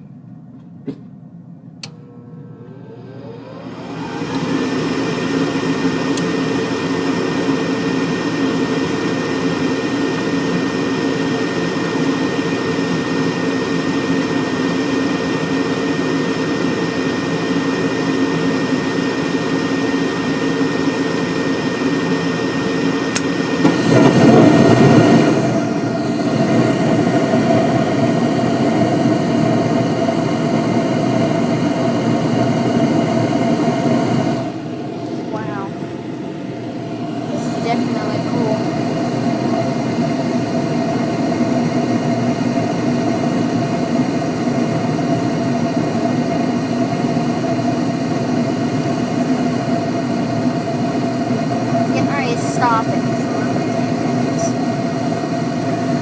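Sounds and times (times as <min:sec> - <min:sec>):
furnace air rush: 0:00.0 - 0:56.0
gas furnace hum: 0:00.0 - 0:56.0.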